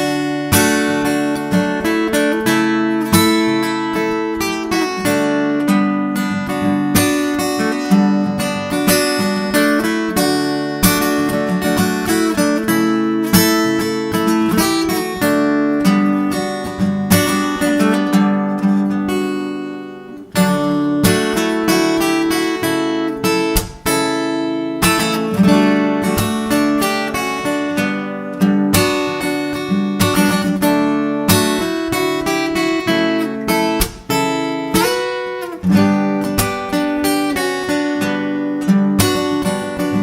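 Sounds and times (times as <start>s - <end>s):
fingerstyle acoustic guitar: 0.0s - 40.0s.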